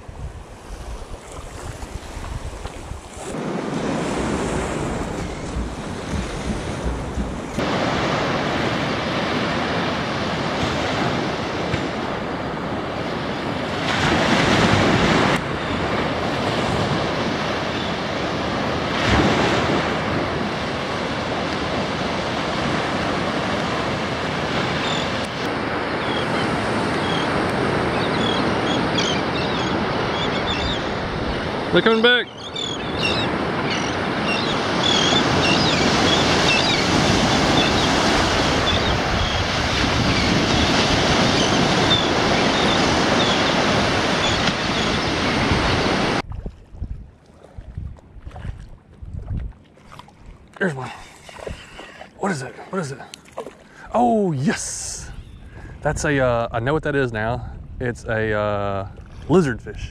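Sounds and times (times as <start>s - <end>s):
wind buffeting microphone: 0.0s - 31.8s, 32.8s - 52.0s, 55.0s - 59.9s
waves washing on sandy shore: 0.0s - 48.7s, 49.7s - 55.1s
seabirds calling: 0.9s - 46.2s, 49.9s - 55.8s.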